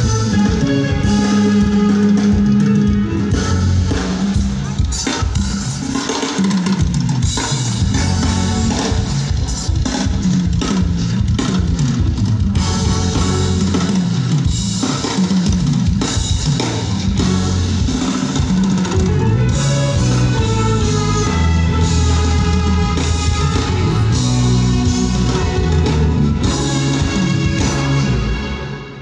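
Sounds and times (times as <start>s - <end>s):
low bass line: 0.0s - 4.7s, 7.7s - 9.4s, 10.2s - 14.9s, 15.7s - 29.0s
live band playing: 0.0s - 29.0s.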